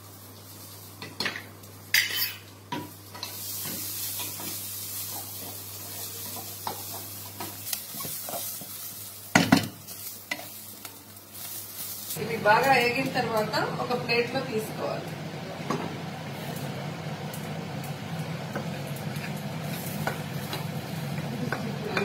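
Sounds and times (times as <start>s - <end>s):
chillies sizzling in hot oil: 0.0s - 22.0s.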